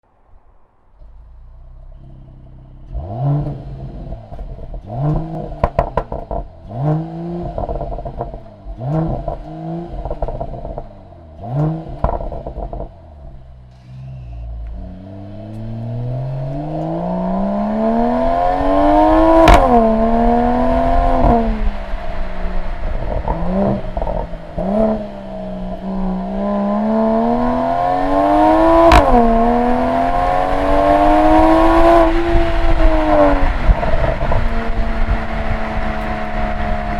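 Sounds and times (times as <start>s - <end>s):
gearshift exhaust crack: 0.2s - 36.9s
car engine revving: 0.8s - 36.9s
exhaust crackling pops: 0.9s - 36.9s
car accelerating hard: 1.0s - 36.9s.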